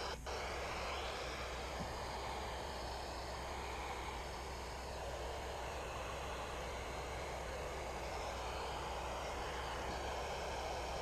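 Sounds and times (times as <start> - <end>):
low steady hum: 0.0 - 11.0
radio static hiss: 0.0 - 11.0.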